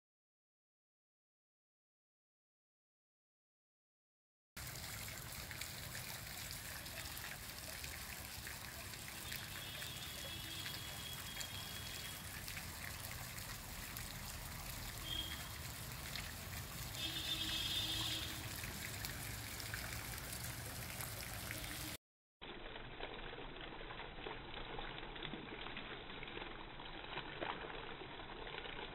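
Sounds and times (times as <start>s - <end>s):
fountain water splashing: 4.6s - 28.9s.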